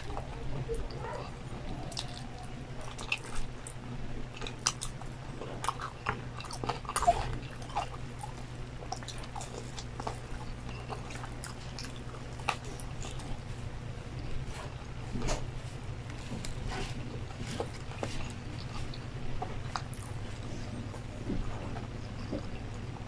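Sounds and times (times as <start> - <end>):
chewing crispy food: 0.0 - 23.0
steady low hum: 0.0 - 23.0.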